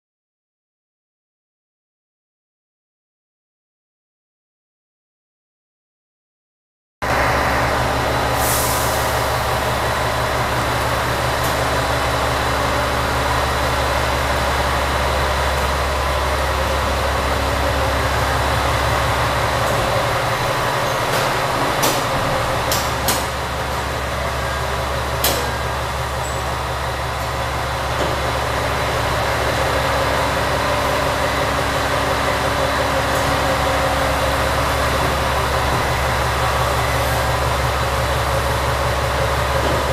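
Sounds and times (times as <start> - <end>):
train engine idling drone: 7.0 - 39.9.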